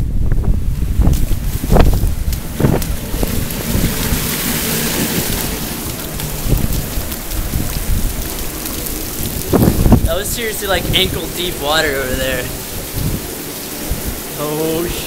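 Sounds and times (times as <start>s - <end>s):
heavy rain: 0.0s - 15.0s
wind rumbling on microphone: 0.0s - 15.0s.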